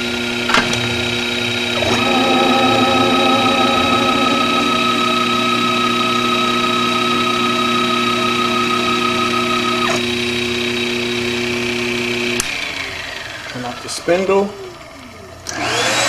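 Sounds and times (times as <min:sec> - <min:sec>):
cnc router whine: 0:00.0 - 0:13.8, 0:14.6 - 0:16.0.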